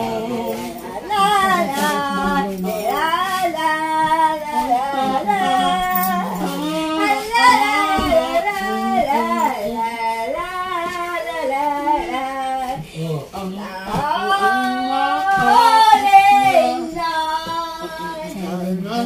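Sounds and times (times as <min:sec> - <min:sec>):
elderly woman singing: 0:00.0 - 0:19.0.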